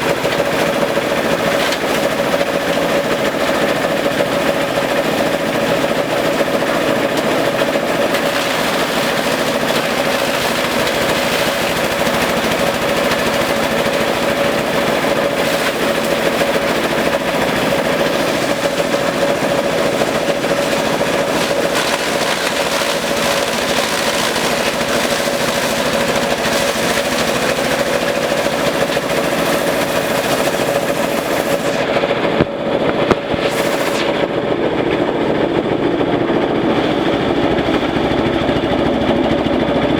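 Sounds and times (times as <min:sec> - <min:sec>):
compost chopper machine running: 0:00.0 - 0:39.9.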